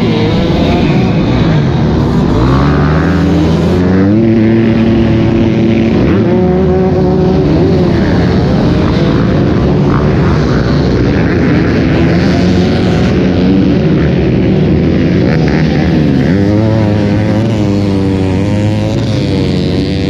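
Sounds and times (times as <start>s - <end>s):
motocross bike engine at full throttle: 0.0s - 20.0s.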